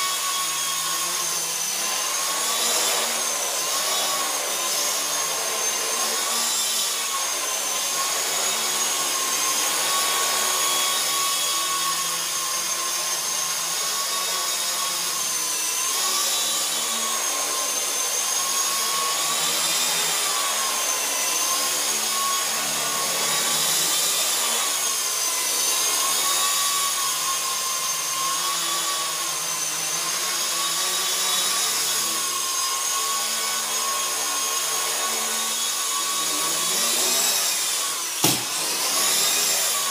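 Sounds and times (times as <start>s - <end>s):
rc helicopter motors whining: 0.0s - 39.9s.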